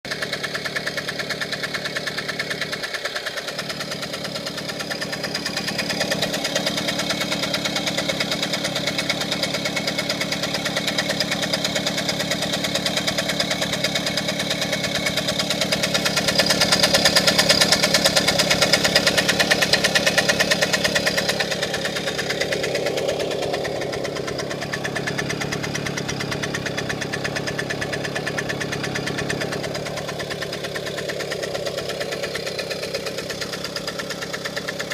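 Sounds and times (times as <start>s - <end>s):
two-stroke engine idling: 0.0s - 34.9s.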